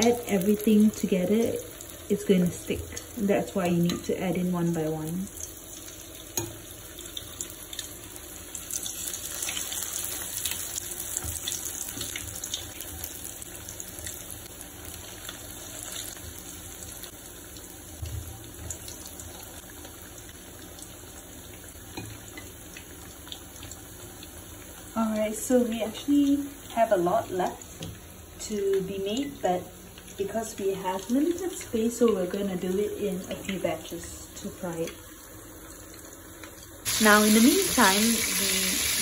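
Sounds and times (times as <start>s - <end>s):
food deep-frying in oil: 0.0s - 39.0s.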